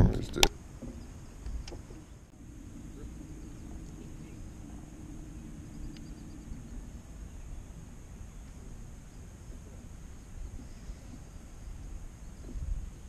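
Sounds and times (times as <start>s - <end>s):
motor droning: 0.0s - 13.0s
low rumble: 1.0s - 13.0s.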